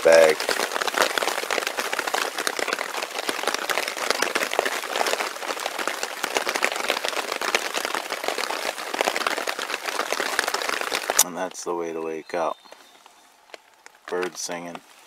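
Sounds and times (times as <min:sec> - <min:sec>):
heavy rain on tarp: 0:00.0 - 0:15.0.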